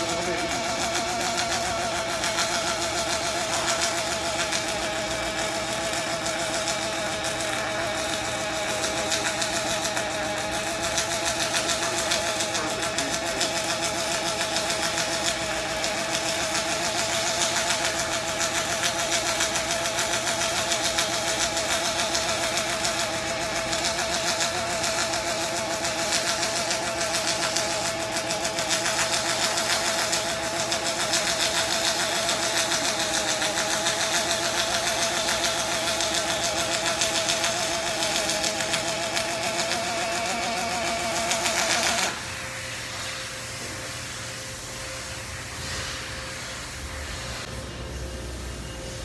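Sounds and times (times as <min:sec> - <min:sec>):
arc welding crackle: 0:00.0 - 0:49.0.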